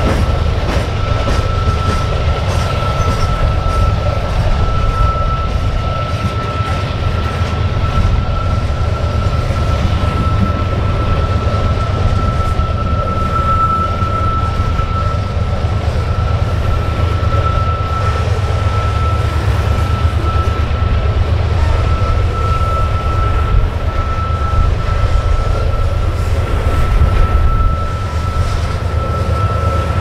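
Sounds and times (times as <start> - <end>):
train rumbling by: 0.0 - 30.0.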